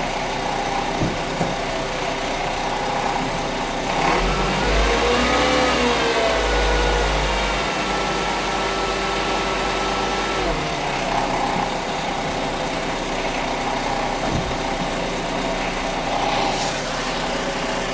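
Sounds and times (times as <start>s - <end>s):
car engine idling: 0.0s - 17.9s
cyclic snore-like engine noise: 0.0s - 17.9s.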